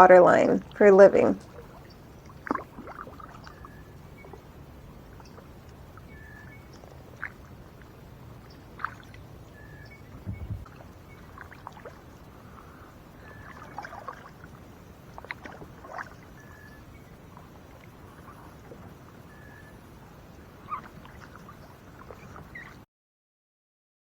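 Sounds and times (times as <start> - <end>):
paddle splashes and drips: 0.6 - 22.8.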